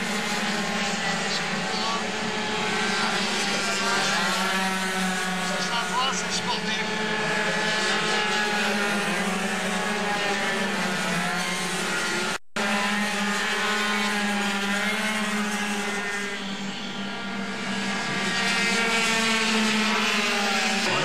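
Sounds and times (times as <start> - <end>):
racing scooters buzzing: 0.0 - 21.0.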